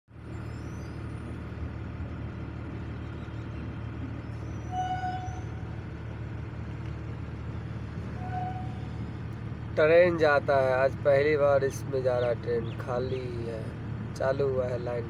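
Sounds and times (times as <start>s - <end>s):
truck engine idling: 0.1s - 15.0s.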